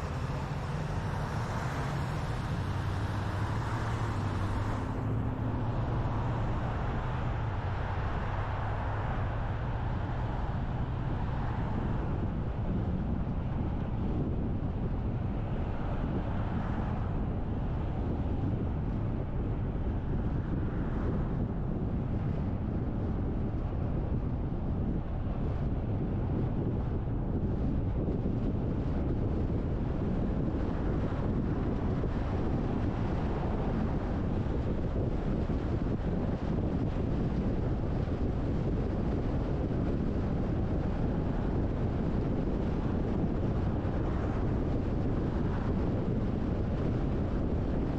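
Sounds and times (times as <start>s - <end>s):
car driving rumble: 0.0s - 47.9s
road and wind noise: 0.0s - 47.9s.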